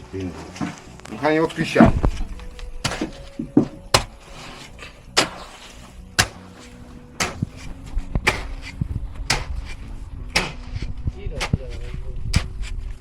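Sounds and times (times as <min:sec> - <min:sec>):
hand tools knocking and scraping: 0:00.0 - 0:12.9
low background rumble: 0:01.6 - 0:13.0.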